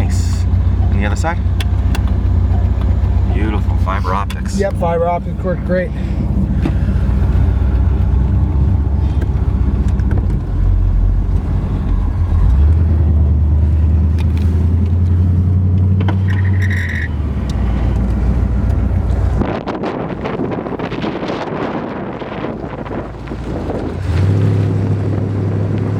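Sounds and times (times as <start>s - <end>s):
car engine droning: 0.0s - 25.9s.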